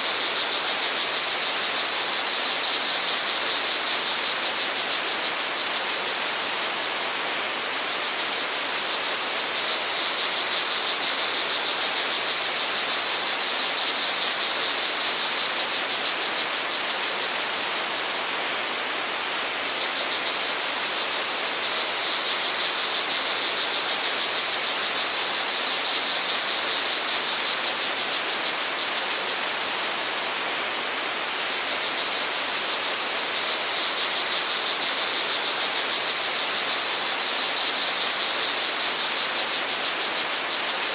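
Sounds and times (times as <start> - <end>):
rushing water: 0.0 - 40.9
crickets chirring: 0.1 - 18.2, 19.6 - 30.7, 31.4 - 40.9.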